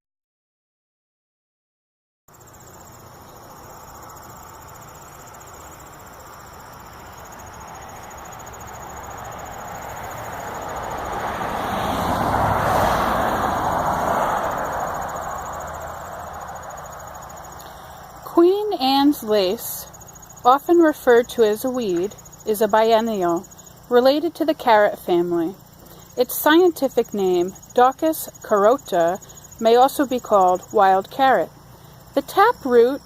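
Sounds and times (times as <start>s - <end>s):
vehicle passing on road: 2.3s - 29.6s
insects trilling: 2.3s - 33.0s.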